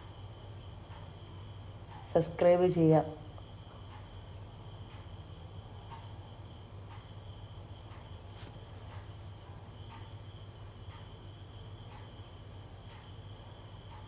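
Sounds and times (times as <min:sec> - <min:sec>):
cooktop hum and high whine: 0:00.0 - 0:14.0.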